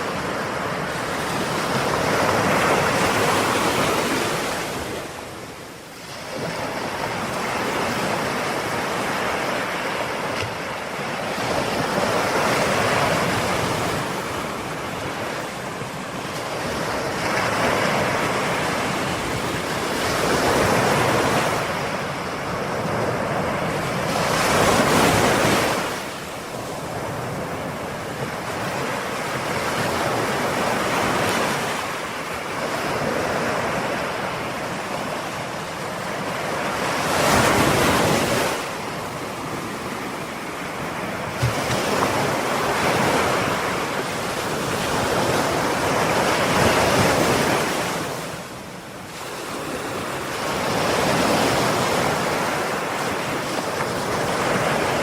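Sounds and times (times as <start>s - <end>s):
ocean waves breaking on shore: 0.0s - 55.0s
wind noise: 0.0s - 55.0s.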